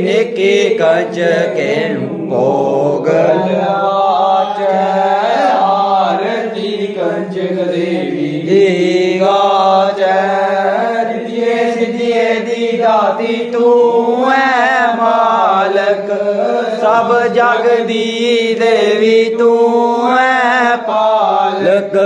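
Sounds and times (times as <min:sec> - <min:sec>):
person singing a hymn: 0:00.0 - 0:22.0.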